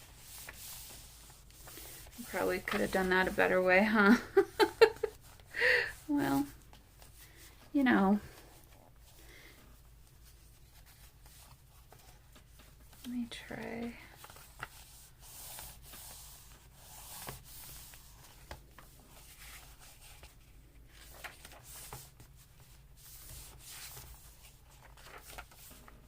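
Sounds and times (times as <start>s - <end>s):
paper rustling: 0.0s - 5.5s, 6.3s - 26.0s.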